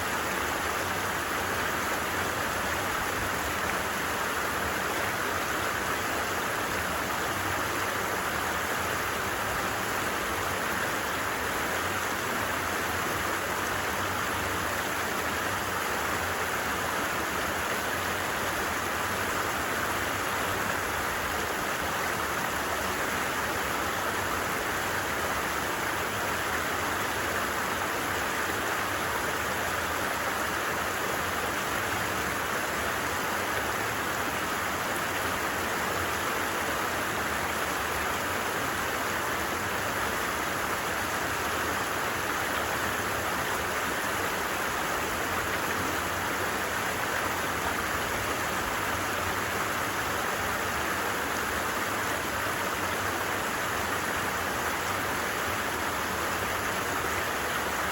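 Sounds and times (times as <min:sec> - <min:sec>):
stream babbling: 0:00.0 - 0:57.9.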